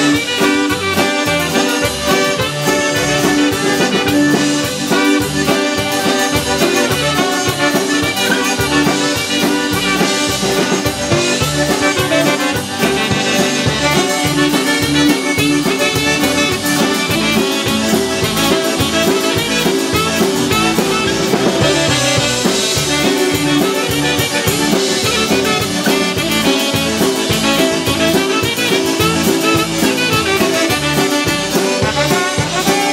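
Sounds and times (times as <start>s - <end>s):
polka band playing: 0.0s - 32.9s.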